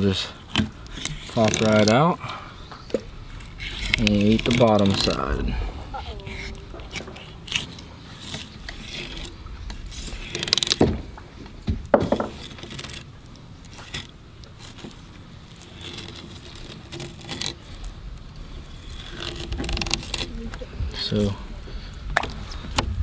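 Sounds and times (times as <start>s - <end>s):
knife scraping fish bones: 0.0s - 21.2s.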